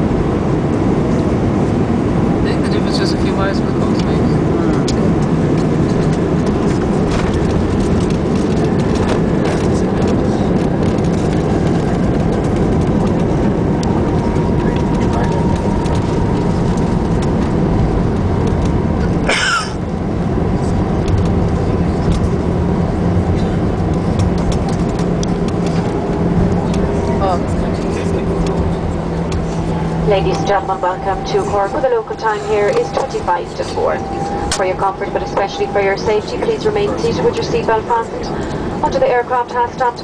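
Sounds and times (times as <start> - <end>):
jet engines rumbling: 0.0 - 40.0
wheels on runway: 0.0 - 40.0.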